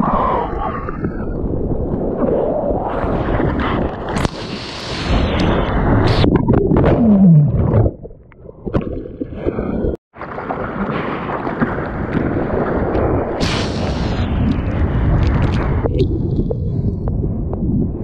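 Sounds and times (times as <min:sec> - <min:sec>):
wind on microphone: 0:00.0 - 0:08.0, 0:10.4 - 0:18.0.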